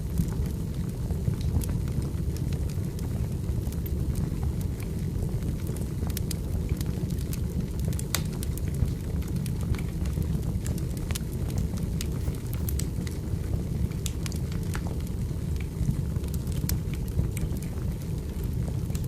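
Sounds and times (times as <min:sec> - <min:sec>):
firewood crackling and popping: 0:00.0 - 0:19.0
low fire rumble: 0:00.0 - 0:19.0.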